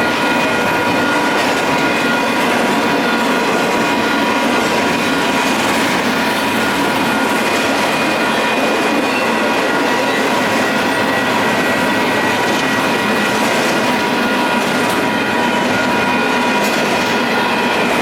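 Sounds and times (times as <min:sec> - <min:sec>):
freight train wheels on rails: 0:00.0 - 0:18.0.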